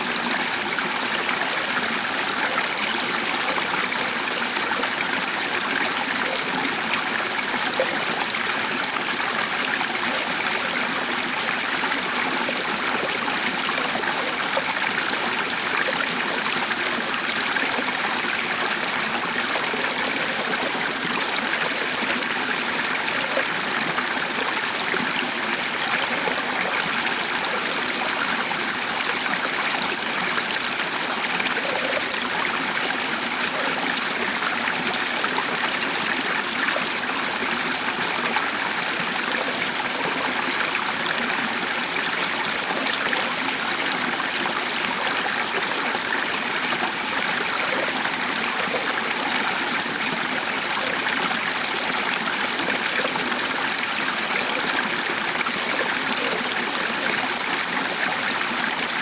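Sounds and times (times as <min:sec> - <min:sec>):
flowing water: 0:00.0 - 0:59.0.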